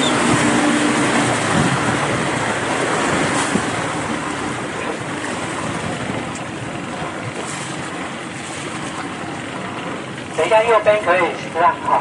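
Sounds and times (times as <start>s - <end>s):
boat motor running: 0.0s - 12.0s
rushing water: 0.0s - 12.0s.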